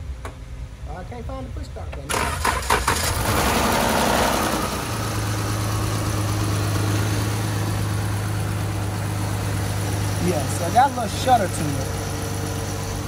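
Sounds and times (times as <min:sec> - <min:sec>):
car engine idling: 0:02.0 - 0:13.0.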